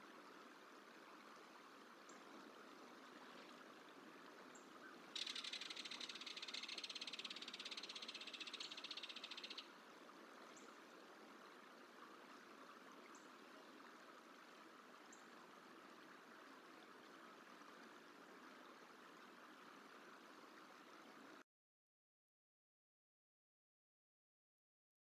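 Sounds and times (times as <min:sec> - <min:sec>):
steady outdoor hiss: 0:00.0 - 0:21.4.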